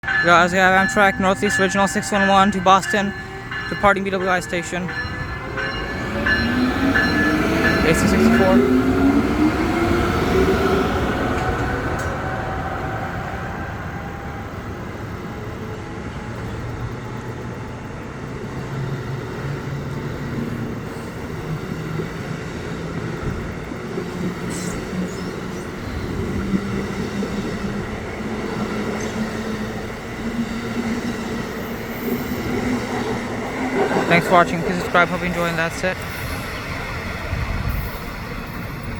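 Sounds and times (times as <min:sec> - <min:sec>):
electric locomotive motor whine: 0:00.0 - 0:38.9
train wheels running on rails: 0:00.0 - 0:38.9.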